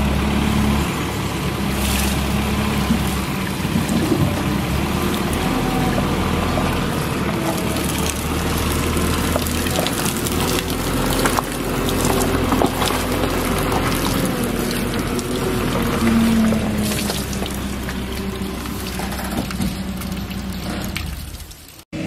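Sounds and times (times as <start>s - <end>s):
loader engine running: 0.0s - 22.0s
water pouring into skip: 0.1s - 21.8s.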